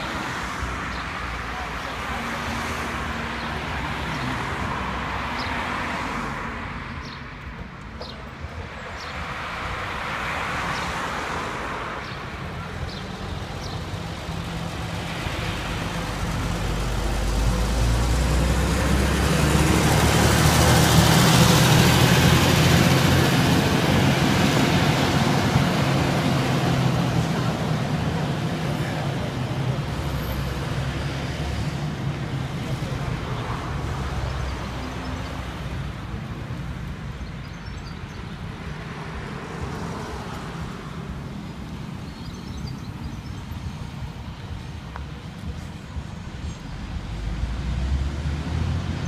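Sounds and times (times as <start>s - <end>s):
coach diesel engine passing: 0.0s - 49.0s
passing car: 0.0s - 49.0s.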